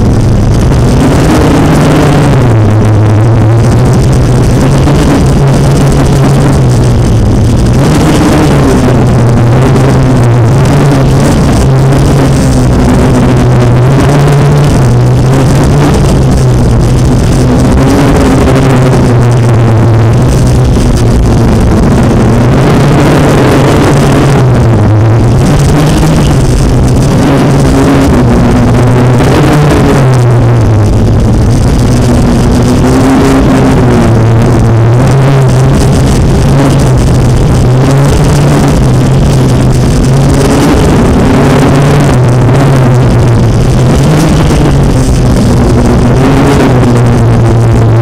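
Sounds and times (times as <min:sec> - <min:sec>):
racing drone motors buzzing: 0:00.0 - 0:48.0.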